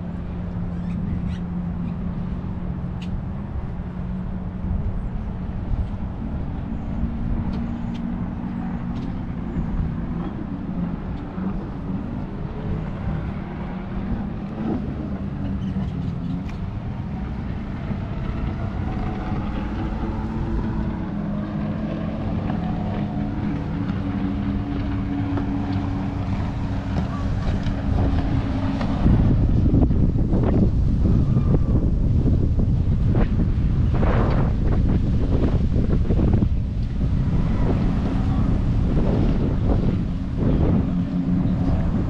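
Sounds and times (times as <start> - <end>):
distant engine hum: 0.0 - 42.0
wind rumble on microphone: 0.0 - 42.0.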